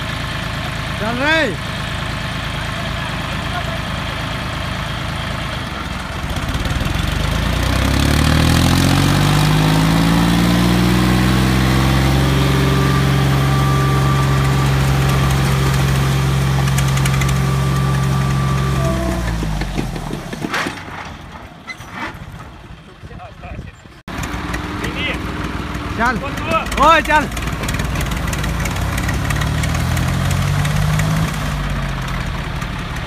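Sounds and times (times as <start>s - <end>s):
diesel tractor engine revving: 0.0s - 23.1s, 23.8s - 33.0s.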